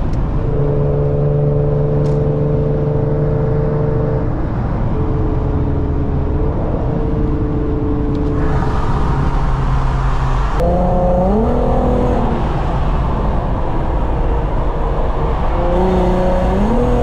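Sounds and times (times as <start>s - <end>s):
car engine accelerating: 0.2s - 17.0s.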